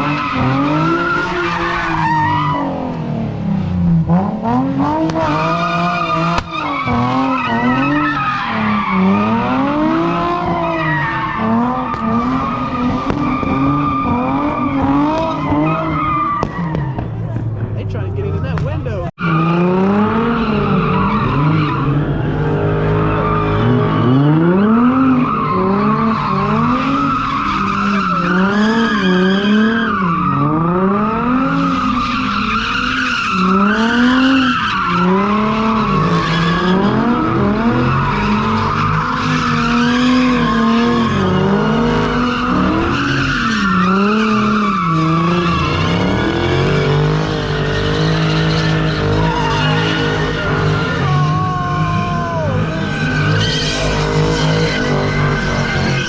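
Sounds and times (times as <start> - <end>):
car engine revving: 0.0 - 56.0
tyres squealing and skidding: 0.0 - 56.0.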